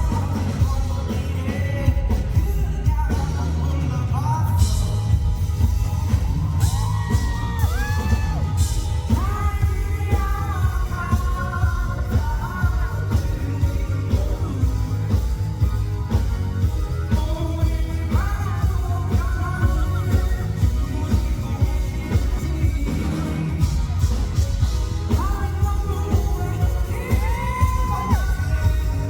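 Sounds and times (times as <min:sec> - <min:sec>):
live pop-rock band: 0:00.0 - 0:29.0
man singing: 0:00.0 - 0:29.0.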